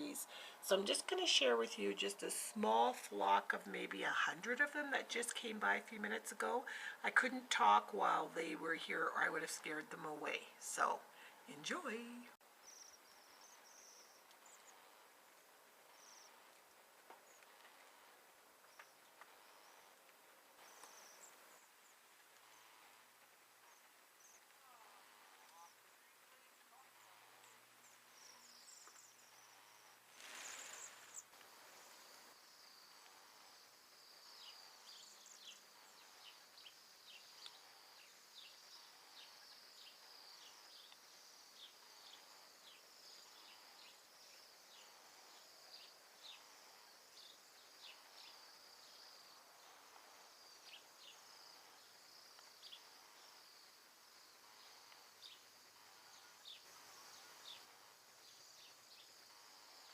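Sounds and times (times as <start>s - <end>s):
rustle: 0.0s - 59.9s.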